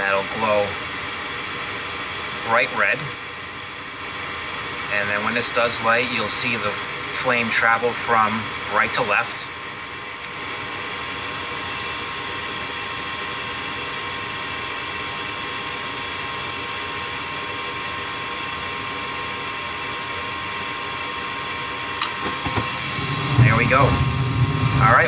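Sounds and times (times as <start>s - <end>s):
furnace motor whirring with whine: 0.0s - 25.0s.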